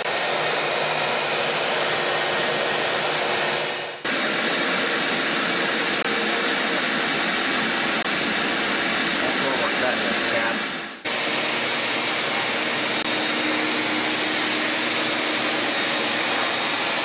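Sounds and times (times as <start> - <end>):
drill bit cutting foam: 0.0 - 17.0
router motor running: 0.0 - 17.0.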